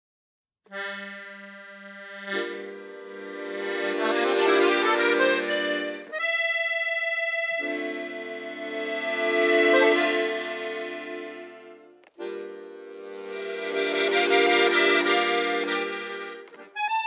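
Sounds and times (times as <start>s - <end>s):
accordion playing chords: 0.7s - 17.0s.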